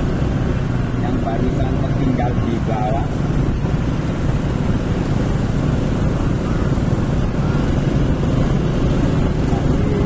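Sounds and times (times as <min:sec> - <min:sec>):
motor scooter engine running: 0:00.0 - 0:10.0
wind rushing over microphone: 0:00.0 - 0:10.0.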